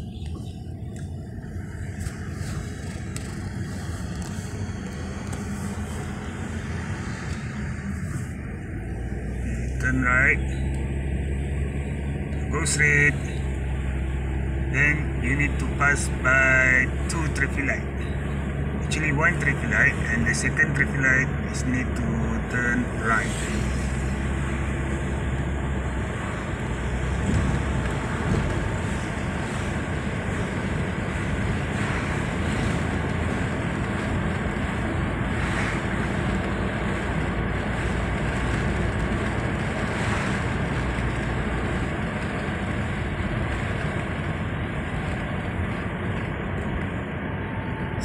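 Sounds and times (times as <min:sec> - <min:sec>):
engine hum: 0:00.0 - 0:48.0.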